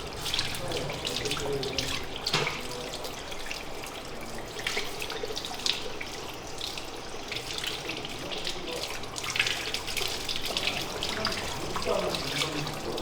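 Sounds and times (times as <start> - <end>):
tap water running into basin: 0.0 - 13.0.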